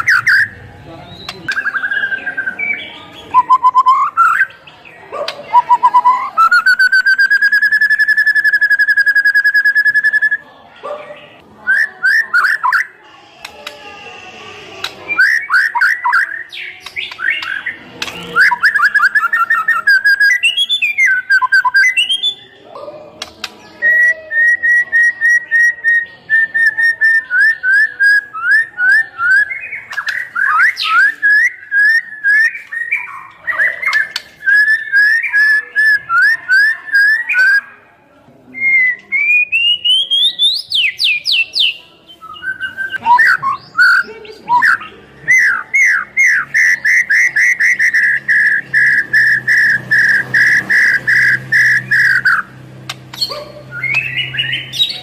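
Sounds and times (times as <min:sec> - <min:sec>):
songbird whistling song: 0:00.0 - 0:10.5, 0:11.6 - 0:13.0, 0:14.8 - 0:22.6, 0:23.2 - 0:37.8, 0:38.5 - 0:55.0.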